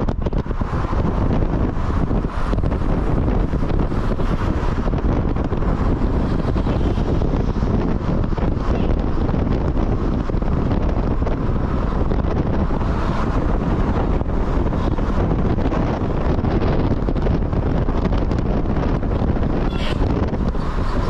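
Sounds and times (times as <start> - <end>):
moving vehicle road noise: 0.0 - 21.0
wind buffeting microphone: 0.0 - 21.0.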